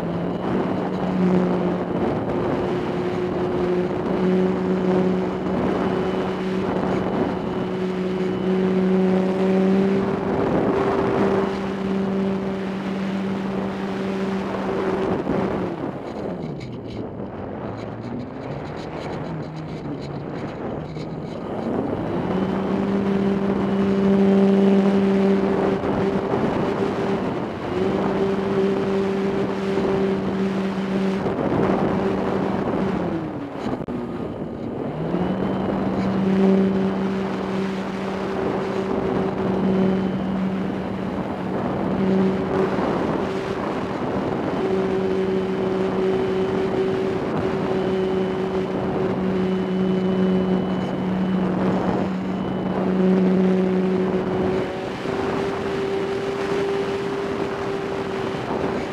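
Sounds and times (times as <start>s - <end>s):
model airplane motor droning: 0.0s - 58.9s
wind rushing over microphone: 0.0s - 58.9s.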